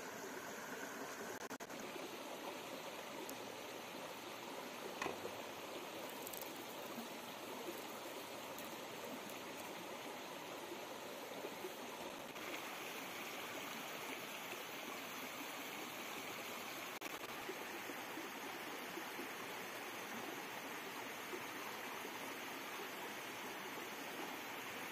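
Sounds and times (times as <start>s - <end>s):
stream running over rocks: 0.0s - 24.9s.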